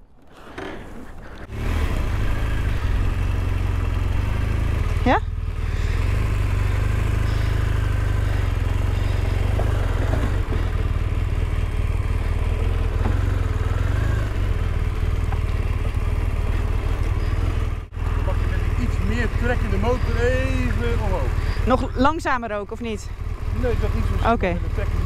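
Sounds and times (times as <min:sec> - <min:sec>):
motorcycle engine at low revs: 0:00.4 - 0:25.0.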